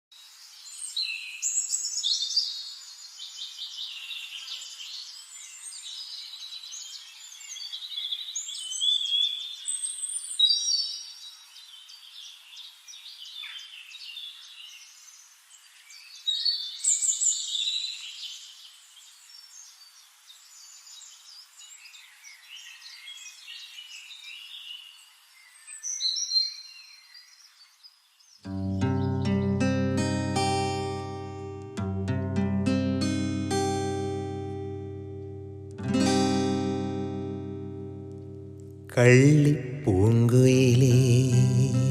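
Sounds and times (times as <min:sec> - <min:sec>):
birds chirping and twittering: 0:00.2 - 0:31.8, 0:33.0 - 0:41.9.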